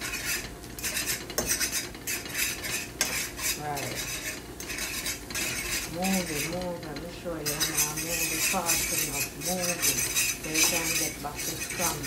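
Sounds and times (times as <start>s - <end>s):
utensil scraping frying pan: 0.0s - 12.0s.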